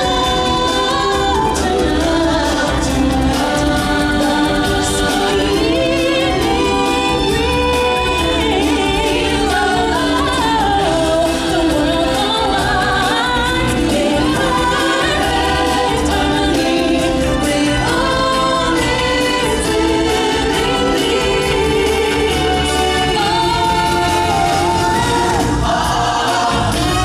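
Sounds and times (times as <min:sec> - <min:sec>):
backing music with low beat: 0:00.0 - 0:27.0
choir singing: 0:00.0 - 0:27.0.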